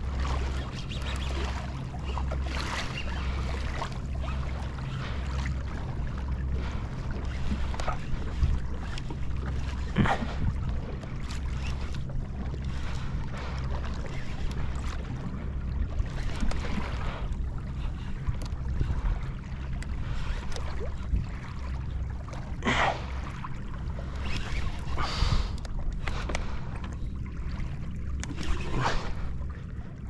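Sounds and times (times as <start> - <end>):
water around kayak: 0.0 - 30.0.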